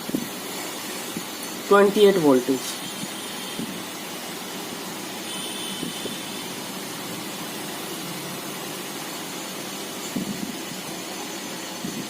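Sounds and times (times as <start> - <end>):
faint high whine: 0.0 - 12.0
room noise hiss: 0.0 - 12.0.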